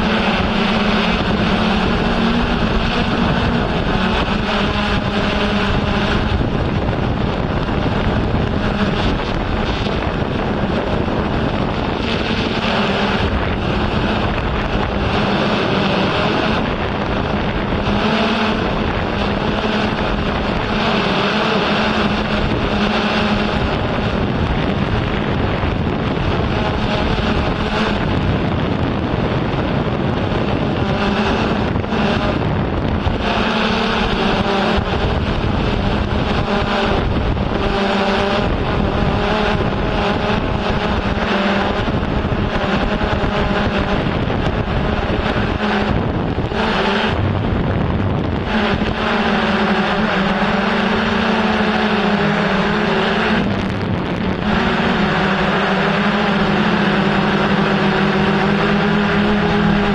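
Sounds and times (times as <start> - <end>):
drone rotors humming and whirring: 0.0 - 59.9
wind buffeting microphone: 0.0 - 59.9.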